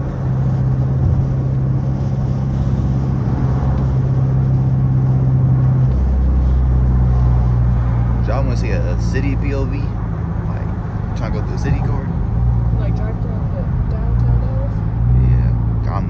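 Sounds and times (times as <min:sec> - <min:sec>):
car exhaust droning: 0:00.0 - 0:16.0.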